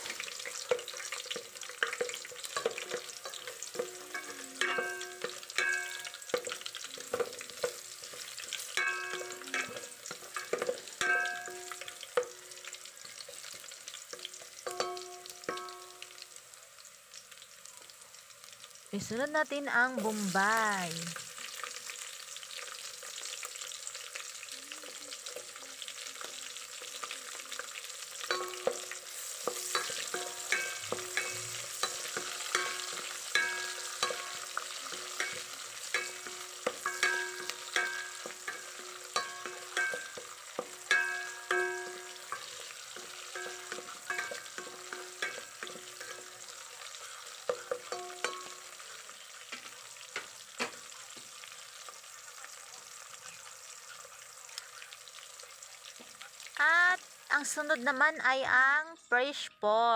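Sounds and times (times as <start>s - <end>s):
garlic and onions sizzling in oil: 0.0s - 59.5s.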